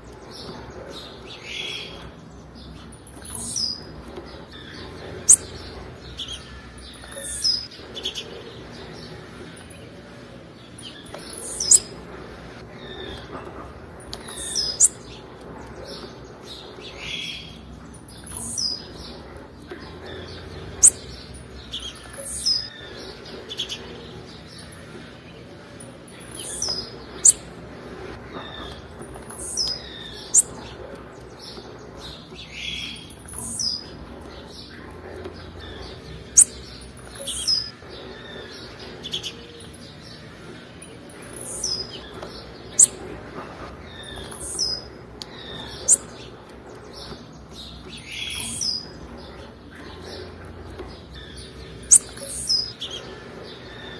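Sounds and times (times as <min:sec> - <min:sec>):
bird high-pitched chips: 0:00.4 - 0:53.9.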